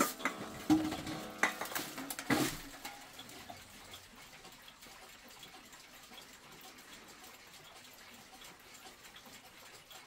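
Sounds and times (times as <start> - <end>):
clock striking: 0.0 - 10.0
clock ticking: 0.0 - 10.0.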